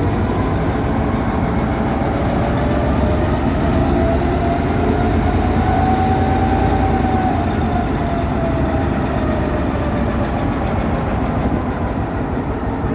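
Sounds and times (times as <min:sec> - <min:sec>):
diesel locomotive engine running: 0:00.0 - 0:12.9.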